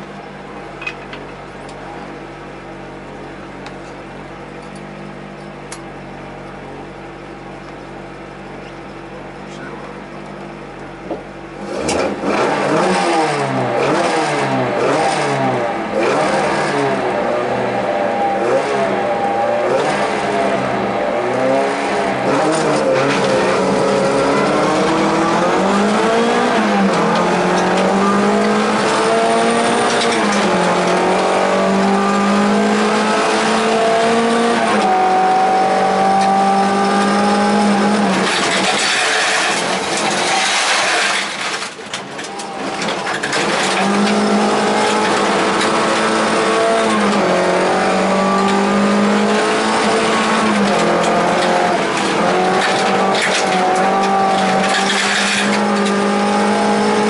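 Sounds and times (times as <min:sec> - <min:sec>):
rally car engine pulling hard: 0:10.9 - 0:57.0.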